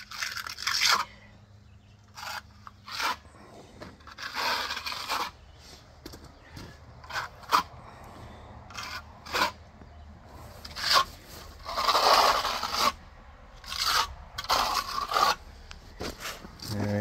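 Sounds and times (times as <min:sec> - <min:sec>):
trowel scraping cement: 0:00.0 - 0:01.3, 0:02.0 - 0:17.0.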